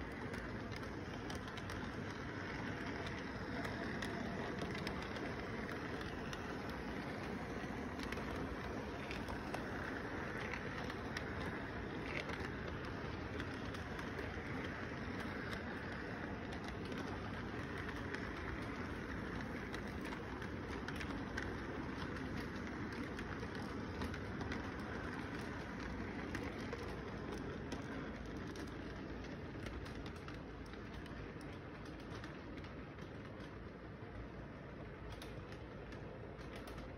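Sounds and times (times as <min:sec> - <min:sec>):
toy train rolling rumble: 0:00.0 - 0:36.9
wheels clicking on track: 0:00.0 - 0:36.9.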